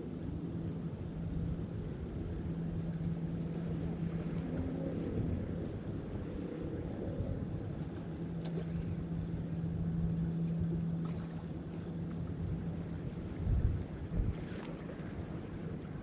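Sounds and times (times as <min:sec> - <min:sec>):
steady low hum: 0:00.0 - 0:16.0
wind buffeting microphone: 0:01.0 - 0:16.0.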